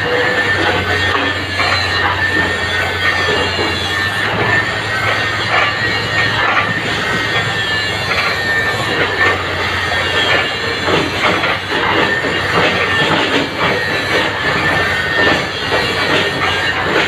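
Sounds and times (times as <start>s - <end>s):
excavator engine running: 0.0s - 17.0s
high metallic squeal: 0.0s - 17.0s
metal clanks and clatter: 0.0s - 17.0s.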